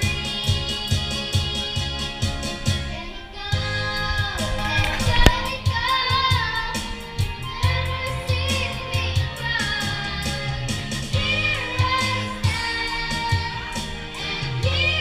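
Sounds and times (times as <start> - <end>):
girl singing into a microphone: 0.0 - 15.0
karaoke backing track: 0.0 - 15.0.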